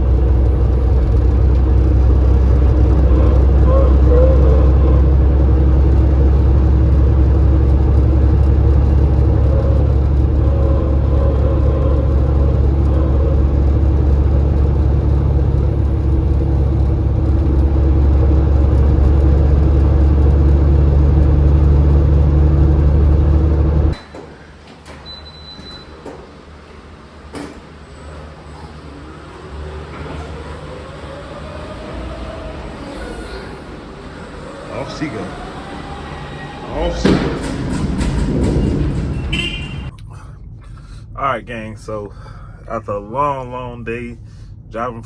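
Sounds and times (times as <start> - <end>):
truck diesel engine running: 0.0 - 24.0, 25.9 - 45.0
road rumble: 0.0 - 24.8, 26.0 - 45.0.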